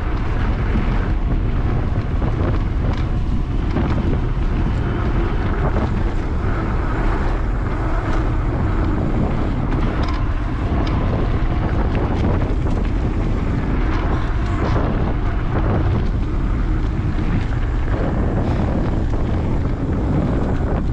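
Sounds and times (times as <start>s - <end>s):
bike clicks and rattles: 0.0s - 20.9s
tyres rolling on dirt trail: 0.0s - 20.9s
wind buffeting microphone: 0.0s - 20.9s.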